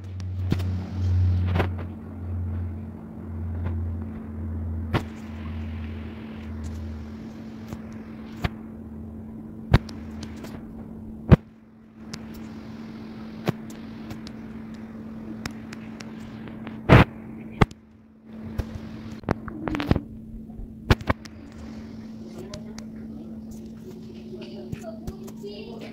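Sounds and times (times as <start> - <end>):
low hum and hiss: 0.0 - 25.9.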